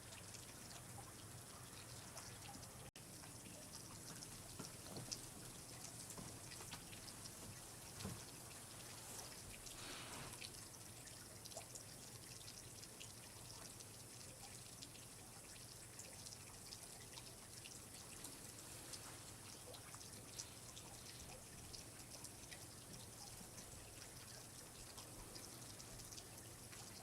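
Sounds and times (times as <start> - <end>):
soft steady hiss: 0.0 - 27.0
water dripping: 0.0 - 27.0.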